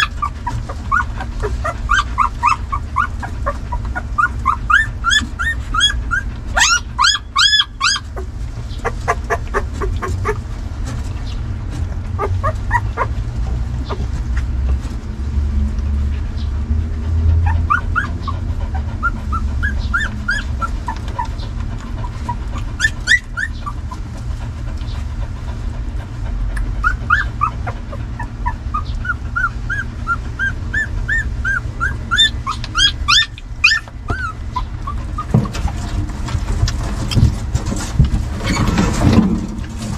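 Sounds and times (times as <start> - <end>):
puppies squealing and whimpering: 0.0 - 14.6, 16.4 - 39.9.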